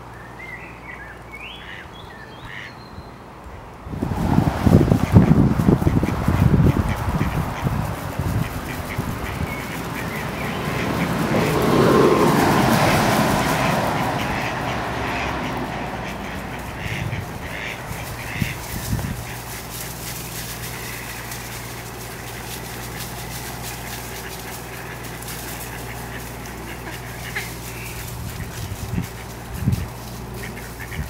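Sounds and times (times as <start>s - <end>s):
ducks quacking: 1.5s - 2.8s, 4.2s - 31.0s
low rumble: 3.8s - 30.3s.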